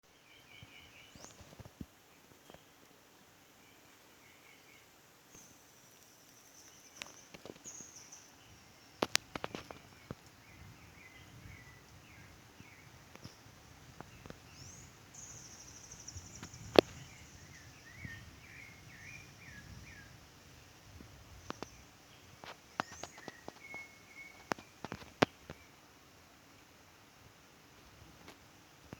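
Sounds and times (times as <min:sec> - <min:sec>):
birds chirping: 0:00.0 - 0:02.8, 0:03.6 - 0:25.9.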